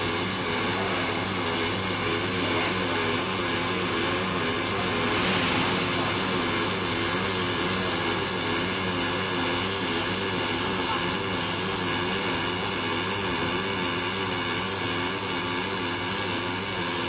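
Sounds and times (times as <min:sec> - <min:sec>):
welding arc hiss and buzz: 0:00.0 - 0:17.0.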